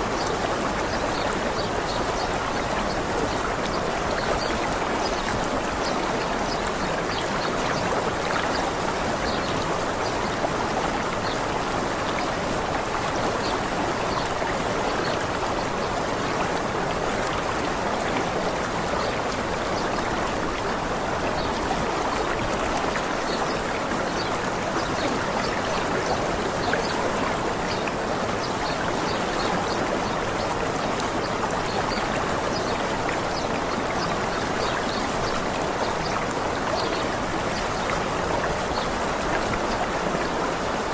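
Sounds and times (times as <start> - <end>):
small waterfall rushing: 0.0 - 40.9.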